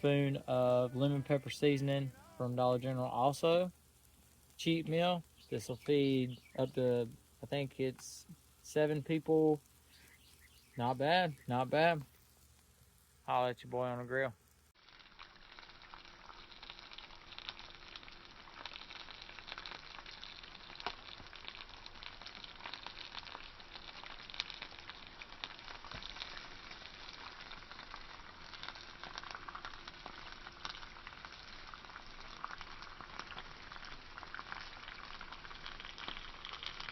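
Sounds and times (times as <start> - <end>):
fish sizzling on a grill: 0.0 - 36.9
small crackling pops: 0.0 - 36.9.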